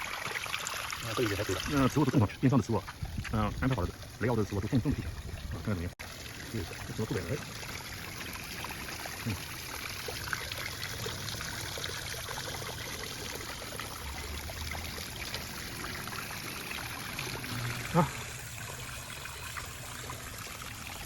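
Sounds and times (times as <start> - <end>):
water trickling over stones: 0.0 - 21.0.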